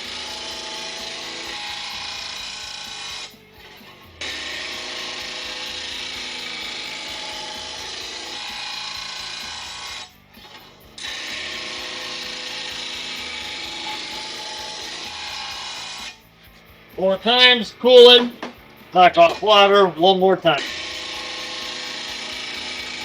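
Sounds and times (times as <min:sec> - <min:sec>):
grinder running: 0:00.0 - 0:23.0
grinder wheel grinding steel blade: 0:00.0 - 0:23.0.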